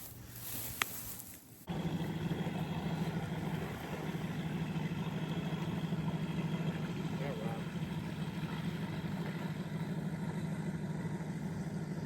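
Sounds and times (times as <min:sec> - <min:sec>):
engine idling: 0:01.6 - 0:12.0.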